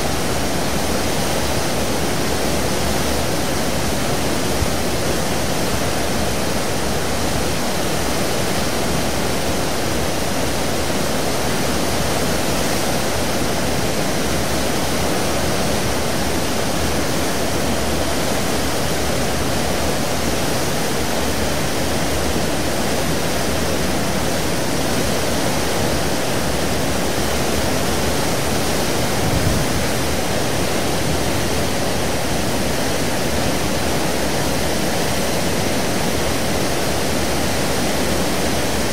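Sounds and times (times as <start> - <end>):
rush of churning water: 0.0 - 38.9.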